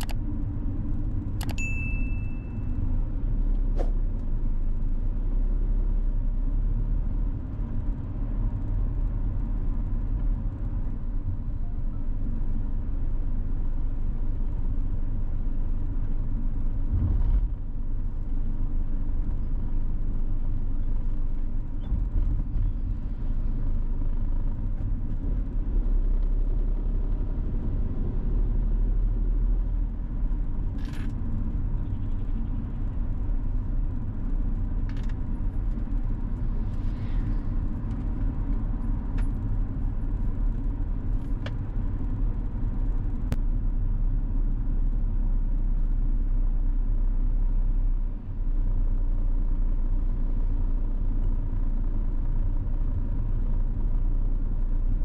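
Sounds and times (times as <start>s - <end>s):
vehicle driving rumble: 0.0s - 55.0s.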